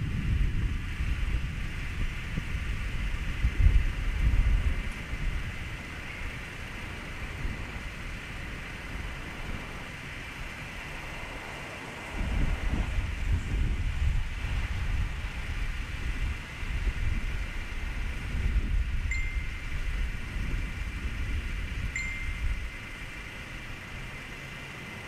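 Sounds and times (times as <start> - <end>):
thunder rumbling: 0.0 - 24.2
steady background hiss: 0.8 - 25.0.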